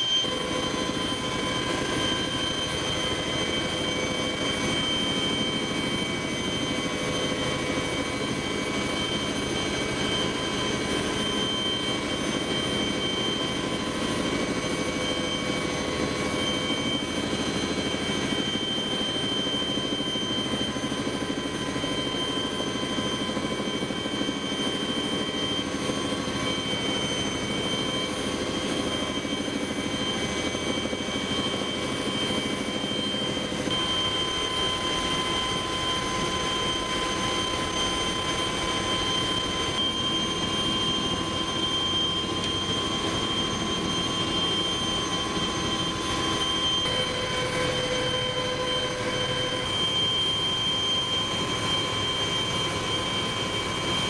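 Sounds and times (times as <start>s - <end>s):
helicopter engine and rotor noise: 0.0s - 54.0s
steady whining tones: 0.0s - 54.0s.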